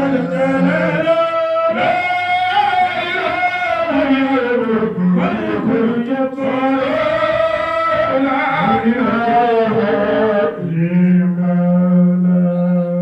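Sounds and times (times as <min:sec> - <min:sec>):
man chanting devotional song: 0:00.0 - 0:13.0.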